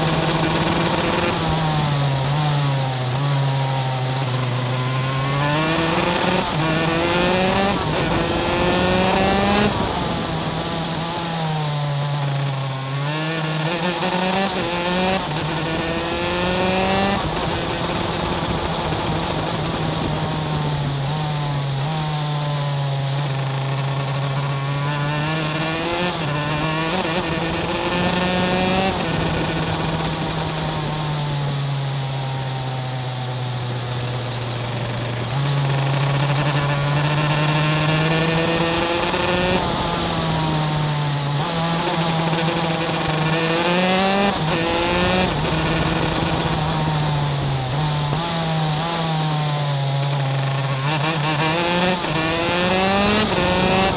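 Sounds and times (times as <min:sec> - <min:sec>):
kart engine accelerating: 0:00.0 - 0:53.9.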